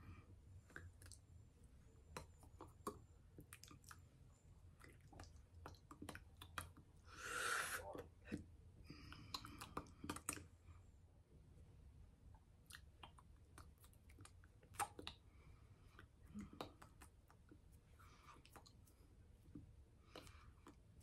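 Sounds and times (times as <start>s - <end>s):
soft breathy mouthing: 0.0s - 10.9s, 12.7s - 21.0s
mouth clicks and lip smacks: 0.6s - 10.6s, 12.3s - 21.0s.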